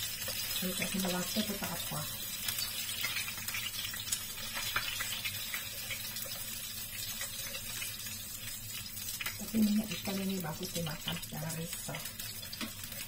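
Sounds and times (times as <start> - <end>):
fish sizzling in a frying pan: 0.0 - 13.0.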